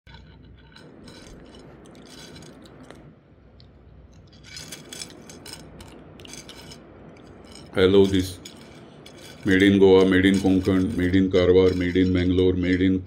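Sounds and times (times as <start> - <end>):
crisp wafers rustling on a plate: 0.1 - 3.1, 4.1 - 12.8.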